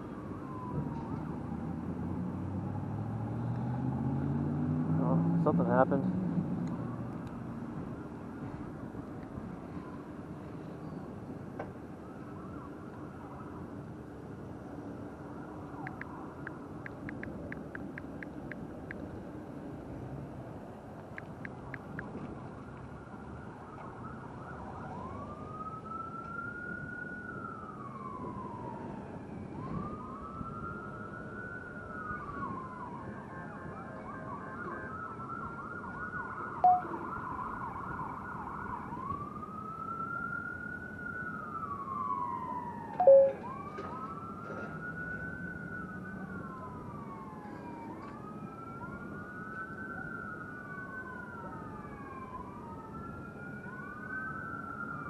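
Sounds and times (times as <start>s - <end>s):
emergency sirens wailing: 0.0s - 6.1s, 6.7s - 55.0s.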